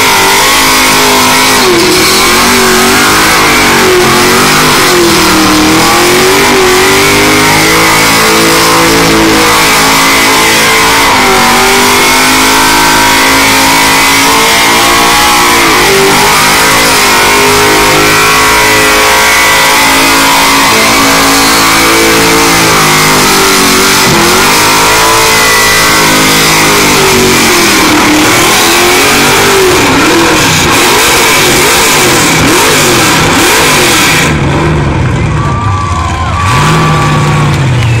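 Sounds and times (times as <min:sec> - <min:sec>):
engine revving hard: 0:00.0 - 0:35.3, 0:36.4 - 0:38.0.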